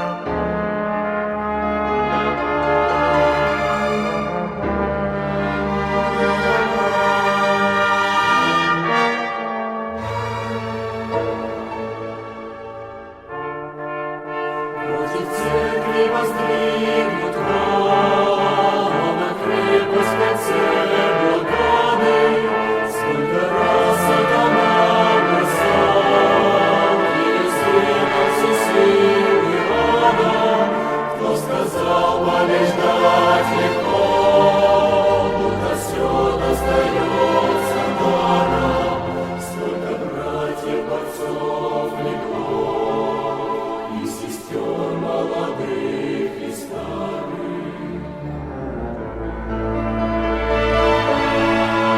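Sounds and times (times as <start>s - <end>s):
brass band playing: 0.0s - 43.0s, 46.9s - 51.9s
choir singing: 0.0s - 51.9s.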